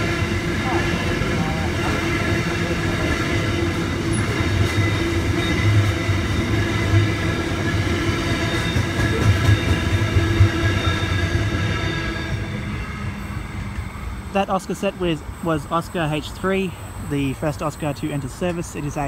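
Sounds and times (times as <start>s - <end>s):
high steady ringing: 0.0s - 18.2s
train wagons rumbling and clattering: 0.0s - 19.0s.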